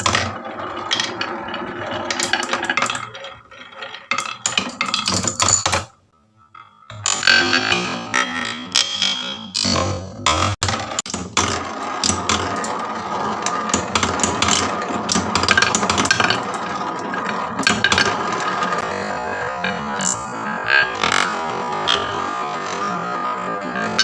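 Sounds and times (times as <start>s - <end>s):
marbles clacking on wooden tracks: 0.0s - 24.0s.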